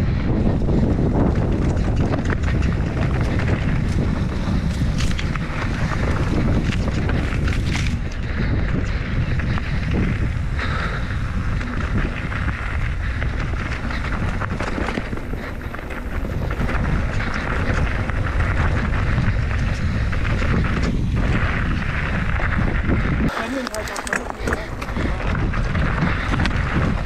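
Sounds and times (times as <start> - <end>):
mountain bike rolling on dirt: 0.0 - 27.0
wind buffeting microphone: 0.0 - 27.0
bike knocks and rattles: 0.4 - 27.0.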